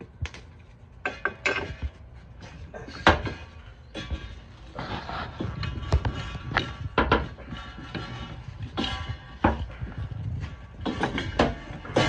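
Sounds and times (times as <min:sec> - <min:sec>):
metal clanks and knocks: 0:01.0 - 0:04.5, 0:05.4 - 0:12.0.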